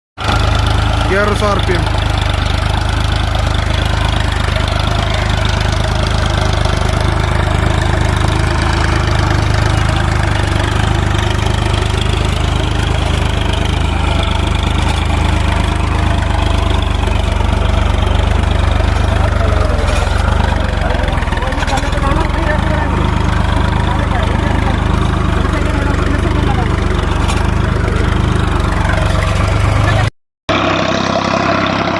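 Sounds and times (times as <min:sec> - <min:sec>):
tractor diesel engine running: 0:00.2 - 0:31.9.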